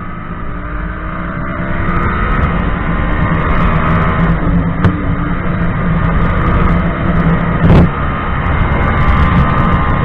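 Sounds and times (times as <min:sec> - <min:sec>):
wind and road rush: 0:00.0 - 0:10.0.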